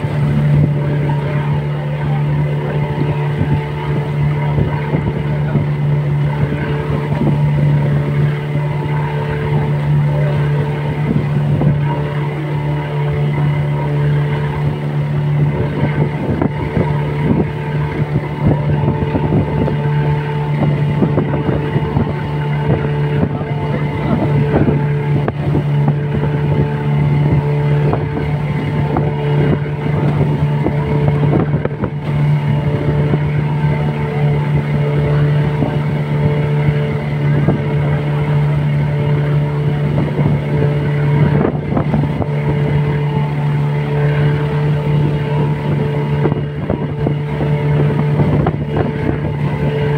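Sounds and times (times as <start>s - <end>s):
motorboat engine droning: 0.0s - 49.9s
wind and water rushing: 0.0s - 49.9s.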